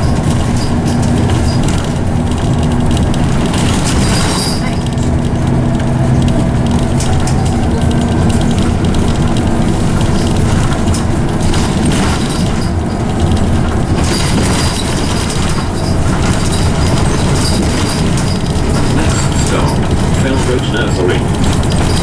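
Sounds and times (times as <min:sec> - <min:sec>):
body rattles and clicks: 0:00.0 - 0:22.0
bus engine and gearbox running: 0:00.0 - 0:22.0.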